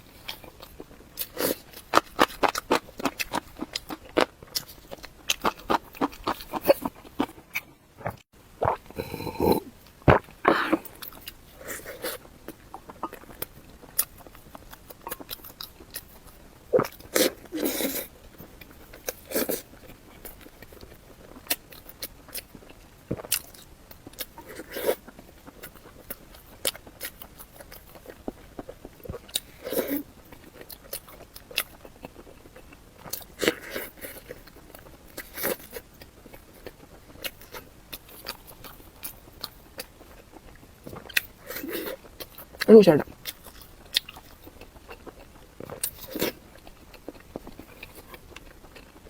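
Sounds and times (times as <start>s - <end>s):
person chewing and crunching food: 0.0s - 49.0s.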